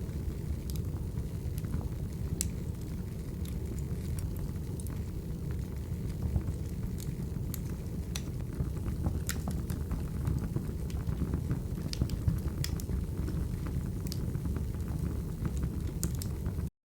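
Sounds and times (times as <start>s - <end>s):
wood fire crackling: 0.0s - 16.7s.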